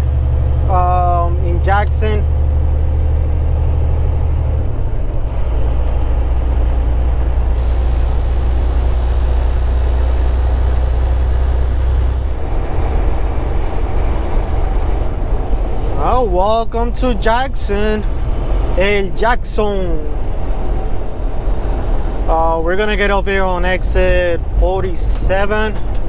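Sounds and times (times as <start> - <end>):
road and tyre noise: 0.0 - 26.0
truck engine drone: 0.0 - 26.0.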